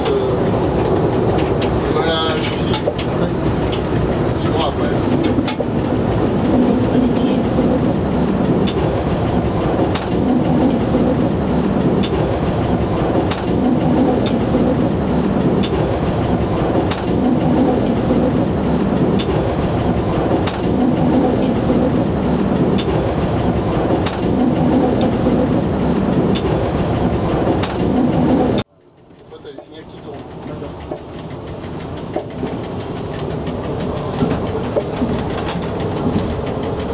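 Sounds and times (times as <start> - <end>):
train wheels rumbling on rail: 0.0 - 36.9
wheels clacking over rail joints: 0.0 - 36.9.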